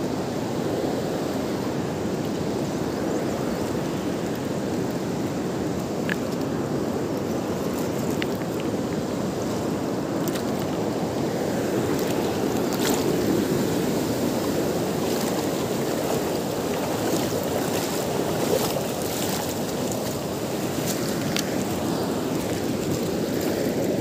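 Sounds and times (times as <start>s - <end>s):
river flowing over stones: 0.0s - 24.0s.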